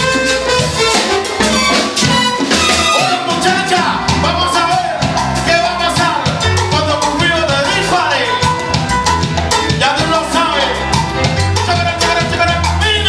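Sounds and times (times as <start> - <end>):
salsa band playing: 0.0 - 13.0.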